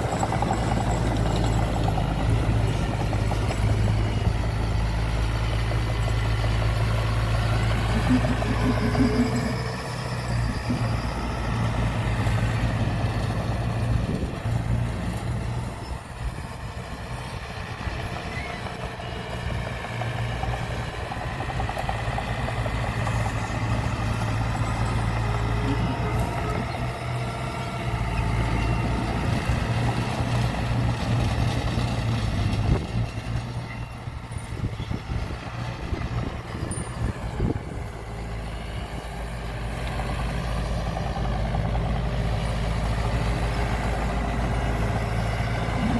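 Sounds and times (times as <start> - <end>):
heavy diesel engine droning: 0.0 - 45.9.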